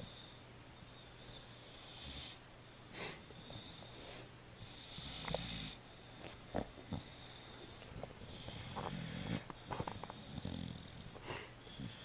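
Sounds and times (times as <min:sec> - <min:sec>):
puppies snoring: 0:00.0 - 0:00.4, 0:01.2 - 0:02.4, 0:03.0 - 0:12.0.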